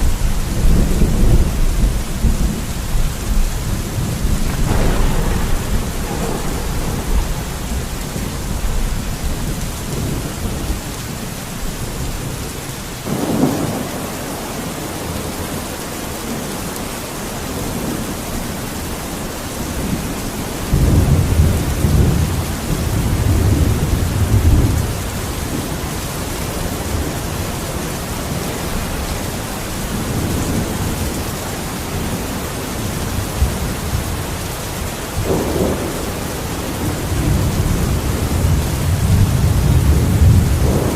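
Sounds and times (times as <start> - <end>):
rolling thunder: 0.0 - 16.4, 17.5 - 32.2, 35.0 - 40.9
heavy rain: 0.0 - 40.9.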